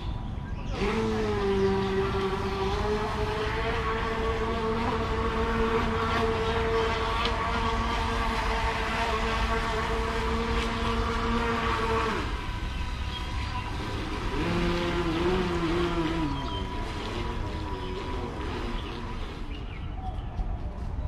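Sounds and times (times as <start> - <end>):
model boat motor running: 0.1 - 19.9.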